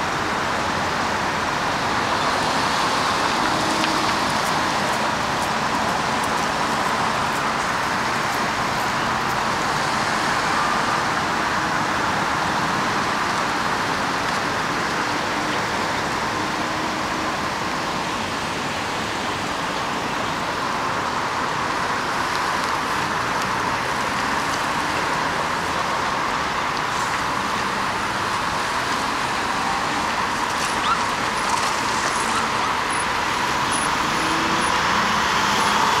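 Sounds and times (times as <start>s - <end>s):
freeway traffic: 0.0s - 36.0s.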